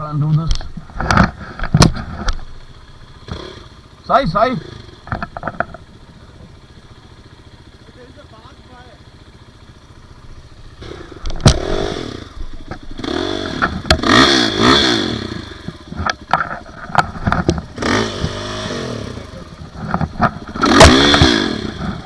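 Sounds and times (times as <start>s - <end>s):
dirt bike engine revving: 0.0s - 22.0s
knocks and clatter from bike: 0.2s - 4.0s, 4.7s - 7.8s, 9.0s - 18.8s, 19.4s - 22.0s.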